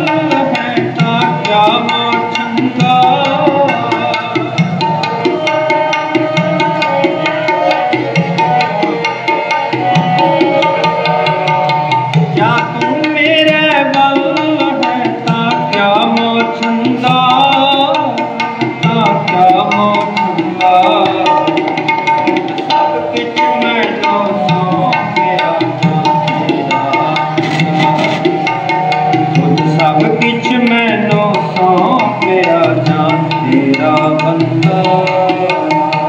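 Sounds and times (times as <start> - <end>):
harmonium melody: 0.0 - 36.0
tabla rhythm: 0.0 - 36.0.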